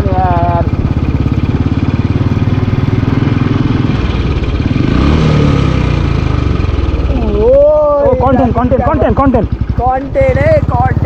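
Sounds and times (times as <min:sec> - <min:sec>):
motorcycle engine thumping: 0:00.0 - 0:11.0.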